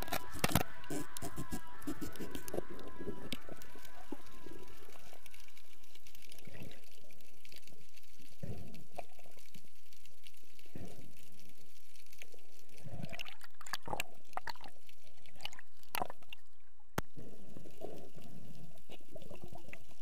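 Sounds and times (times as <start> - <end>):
underwater clicks and crackles: 0.0 - 20.0
underwater gurgling and sloshing: 0.0 - 20.0.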